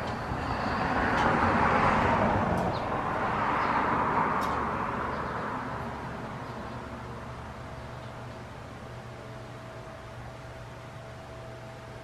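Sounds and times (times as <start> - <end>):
broad rushing noise: 0.0 - 12.0.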